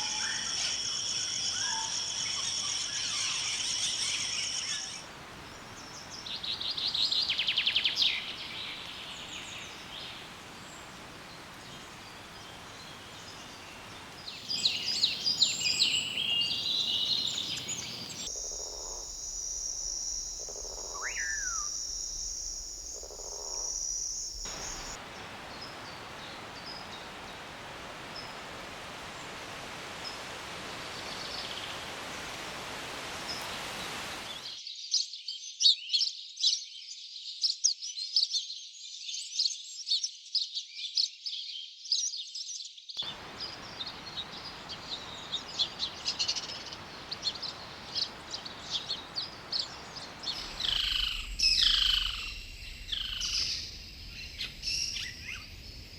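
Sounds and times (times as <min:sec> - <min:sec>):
birds chirping: 0:00.0 - 0:34.5, 0:43.0 - 0:55.9
steady background hiss: 0:00.0 - 0:34.5, 0:43.0 - 0:55.9.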